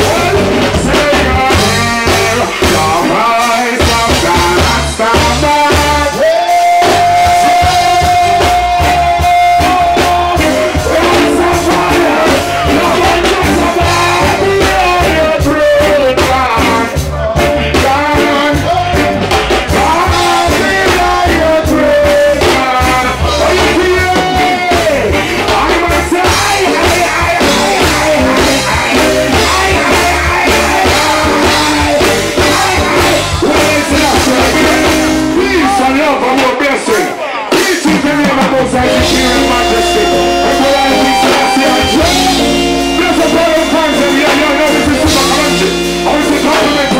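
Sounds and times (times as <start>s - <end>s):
live reggae band: 0.0s - 46.9s
man singing through pa: 0.0s - 46.9s.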